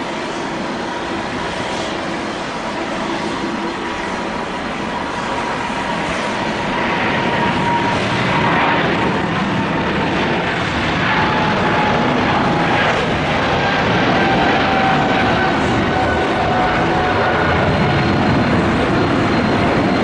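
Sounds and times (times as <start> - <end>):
faint jet engine whine: 0.0 - 20.0
jet engines roaring: 0.0 - 20.0.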